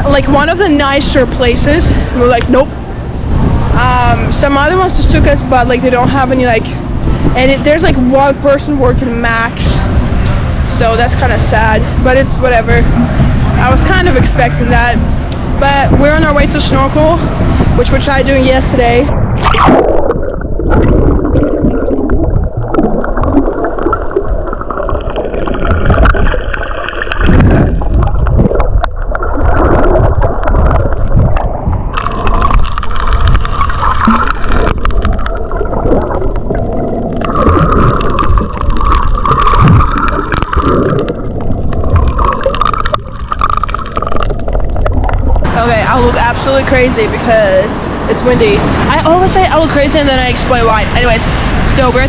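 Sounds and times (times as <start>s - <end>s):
water gurgling and sloshing: 0.0s - 52.0s.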